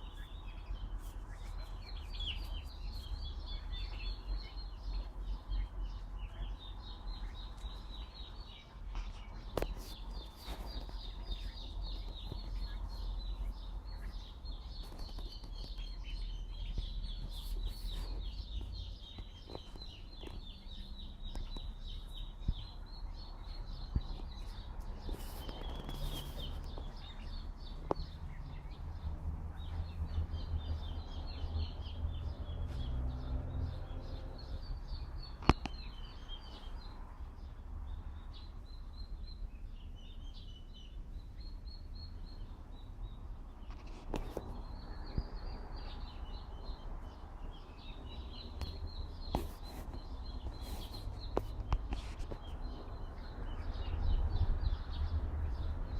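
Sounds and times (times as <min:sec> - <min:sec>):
songbirds trilling: 0:00.0 - 0:55.9.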